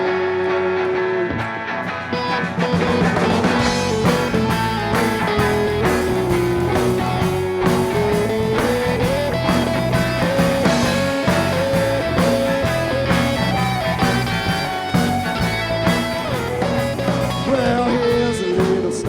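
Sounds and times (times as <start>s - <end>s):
lead guitar long notes: 0.0s - 19.0s
rock band playing live: 0.0s - 19.0s.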